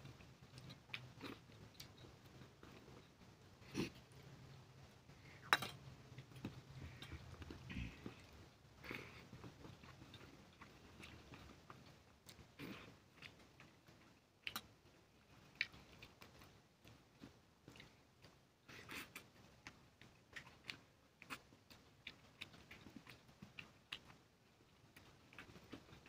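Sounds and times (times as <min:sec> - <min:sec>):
person chewing and smacking: 0:00.0 - 0:26.0.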